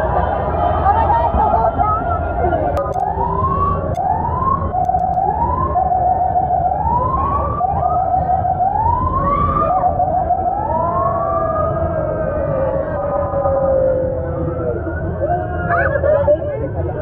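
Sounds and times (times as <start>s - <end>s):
fire truck siren: 0.0s - 16.1s
low rumble: 0.0s - 17.0s.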